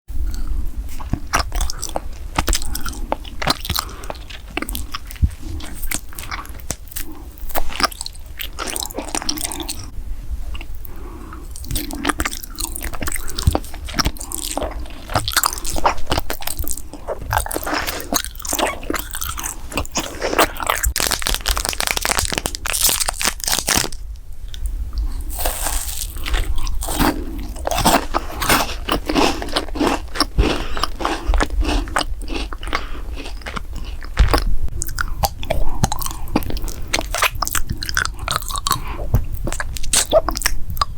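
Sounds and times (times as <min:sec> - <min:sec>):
crunchy chewing of food: 0:00.2 - 0:40.9.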